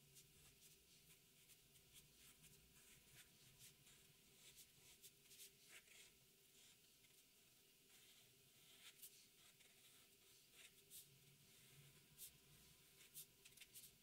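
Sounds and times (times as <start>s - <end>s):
marker scratching on paper: 0.2s - 7.2s, 7.9s - 14.0s.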